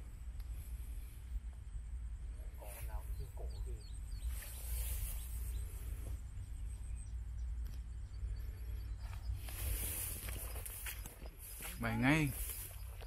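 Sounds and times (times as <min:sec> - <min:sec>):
wind rumbling on microphone: 0:00.0 - 0:13.0
faint bird chirps: 0:02.2 - 0:13.0.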